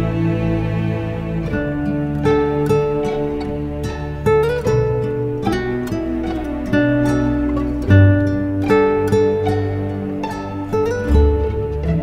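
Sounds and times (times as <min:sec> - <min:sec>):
plucked string notes: 0:00.0 - 0:12.0.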